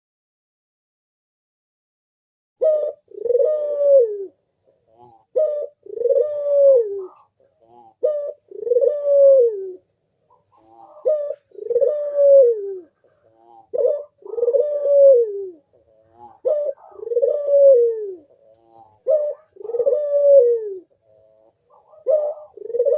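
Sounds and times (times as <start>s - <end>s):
dove cooing: 2.6s - 22.9s.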